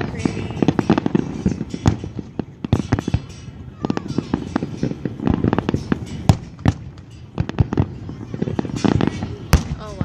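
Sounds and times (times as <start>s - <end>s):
fireworks booming bangs: 0.0s - 10.0s.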